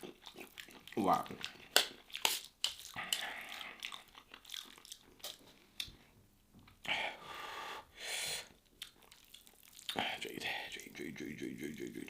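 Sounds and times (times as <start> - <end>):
person chewing food: 0.0 - 6.2, 8.5 - 12.0.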